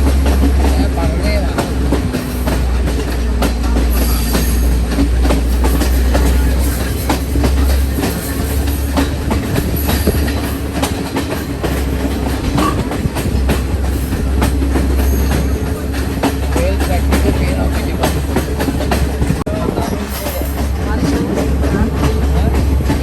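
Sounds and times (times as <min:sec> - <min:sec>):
train rumbling: 0:00.0 - 0:23.0
wheels clattering over rails: 0:00.0 - 0:23.0.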